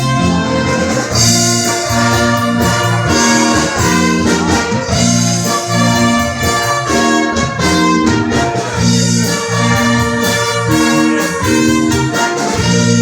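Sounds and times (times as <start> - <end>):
brass long held notes: 0.0 - 13.0
live band slow melody: 0.0 - 13.0.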